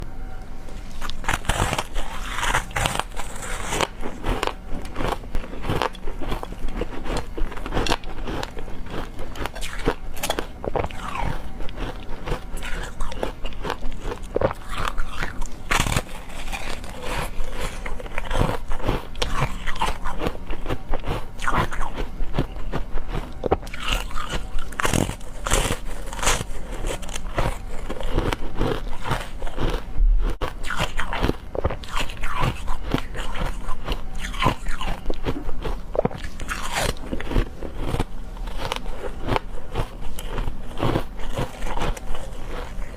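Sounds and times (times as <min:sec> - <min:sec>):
chewing: 0:00.9 - 0:42.9
ice being bitten and crunched: 0:01.0 - 0:42.9.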